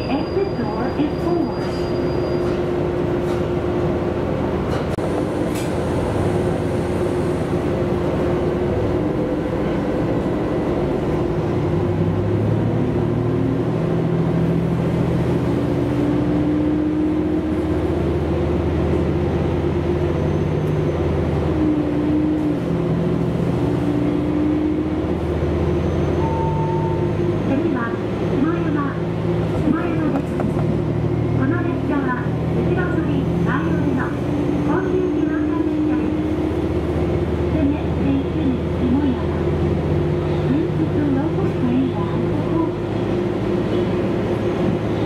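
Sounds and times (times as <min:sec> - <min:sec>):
diesel railcar engine rumble: 0:00.0 - 0:45.0.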